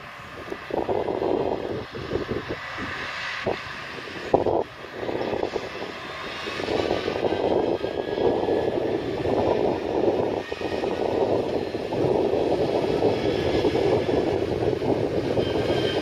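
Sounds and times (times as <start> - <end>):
diesel machinery engine drone: 0.0 - 16.0.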